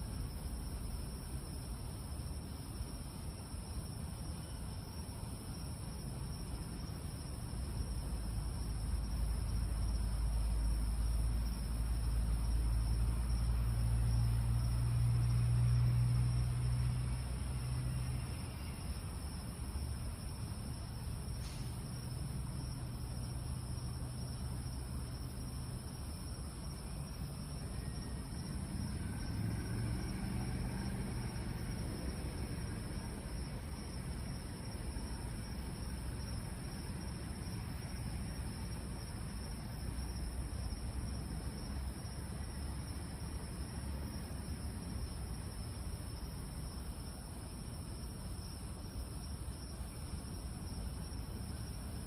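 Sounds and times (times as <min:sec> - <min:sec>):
crickets buzzing: 0:00.0 - 0:52.0
insect chorus: 0:00.0 - 0:52.0.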